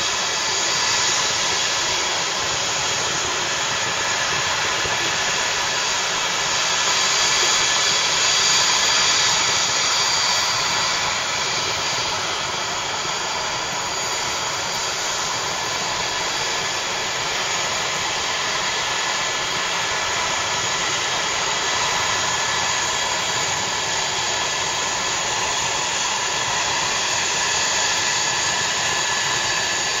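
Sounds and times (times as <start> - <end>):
helicopter turbine whine: 0.0 - 30.0.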